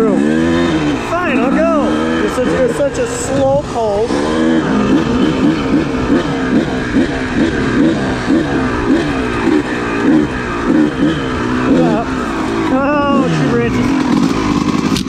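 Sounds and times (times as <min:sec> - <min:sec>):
dirt bike engine revving: 0:00.0 - 0:15.0
noisy rush: 0:00.0 - 0:15.0.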